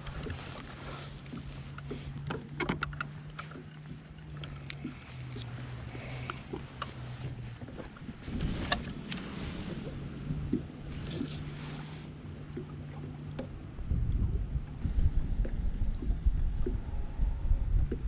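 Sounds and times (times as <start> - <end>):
steady low hum: 0.0 - 18.0
water splashing against hull: 0.0 - 18.0
wind rumbling on microphone: 0.0 - 18.0.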